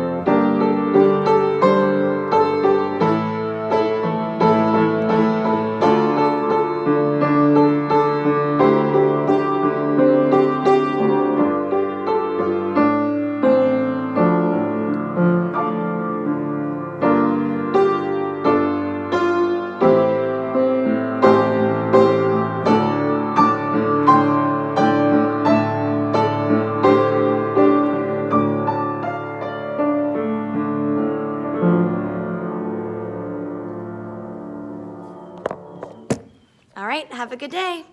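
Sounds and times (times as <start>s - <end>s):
piano music: 0.0s - 36.6s.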